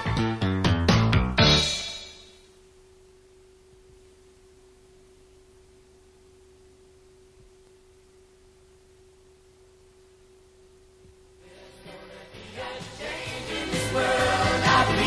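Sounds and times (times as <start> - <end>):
tape hiss: 0.0 - 15.0
faint steady pure tone: 1.6 - 15.0.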